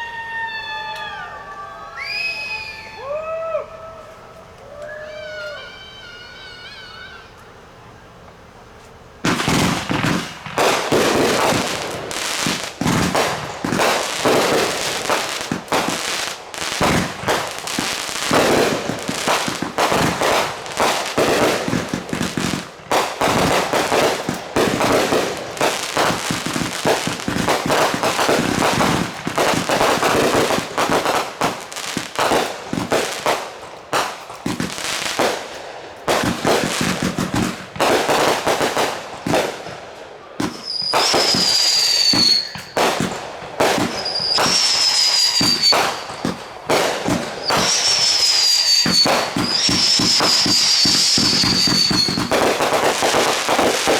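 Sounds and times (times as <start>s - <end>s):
fireworks bangs and crackling: 8.6s - 53.9s.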